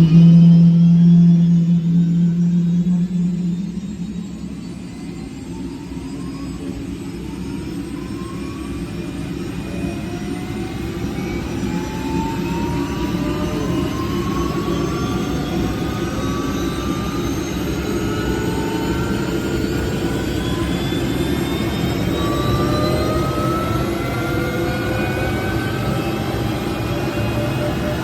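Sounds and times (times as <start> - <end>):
helicopter turbine engine starting: 0.0 - 28.0
turbine whines rising in pitch: 0.0 - 28.0.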